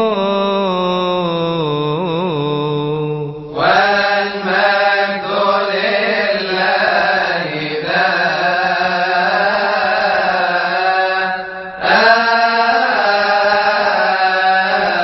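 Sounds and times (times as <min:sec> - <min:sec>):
man chanting melismatic melody: 0:00.0 - 0:15.0.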